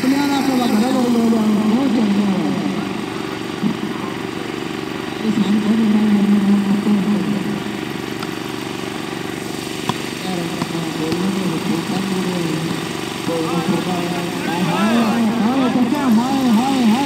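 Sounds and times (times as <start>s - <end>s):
generator engine running: 0.0s - 17.0s.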